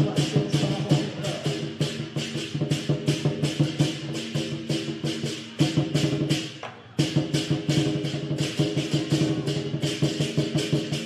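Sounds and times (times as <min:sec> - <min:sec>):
percussion band rapid beat: 0:00.0 - 0:11.0.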